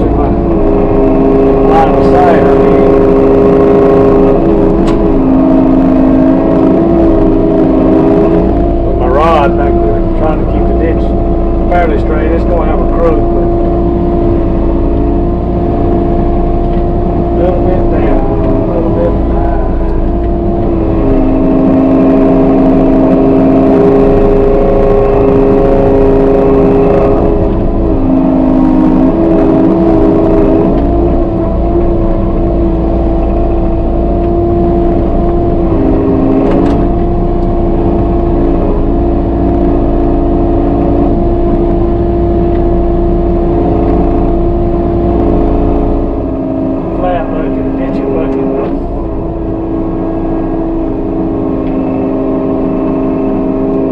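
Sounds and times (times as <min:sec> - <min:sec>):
excavator engine and hydraulics: 0:00.0 - 0:53.9.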